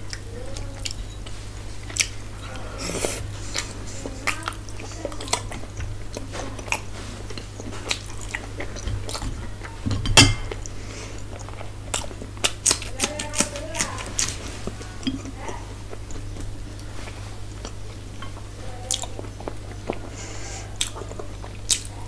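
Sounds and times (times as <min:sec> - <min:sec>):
low steady hum: 0:00.0 - 0:22.0
person chewing and eating: 0:00.0 - 0:22.0.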